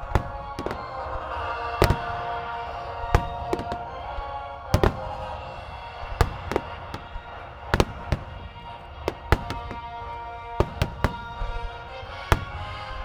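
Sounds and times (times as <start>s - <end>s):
fireworks bursting: 0.0s - 13.0s
music with sustained tones: 0.0s - 13.0s.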